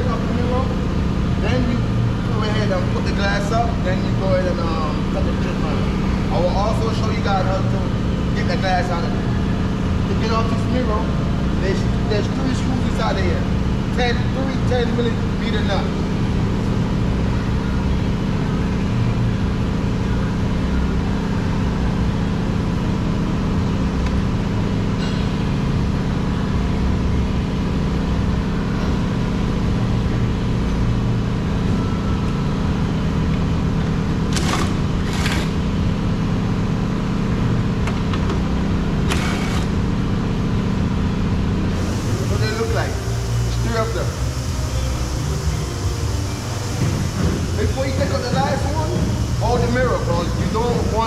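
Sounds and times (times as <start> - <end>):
machine hum: 0.0 - 51.0.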